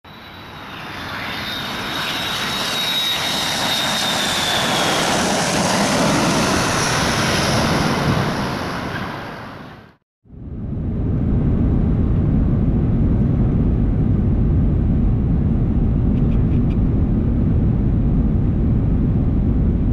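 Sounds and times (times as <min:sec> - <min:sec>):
high jet engine whine: 0:00.1 - 0:19.9
jet airliner engine rush: 0:00.1 - 0:19.9.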